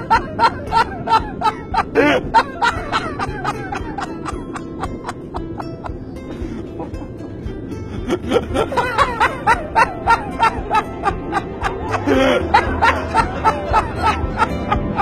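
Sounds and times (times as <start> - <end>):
background music: 0.0 - 15.0
person laughing heartily: 0.0 - 15.0.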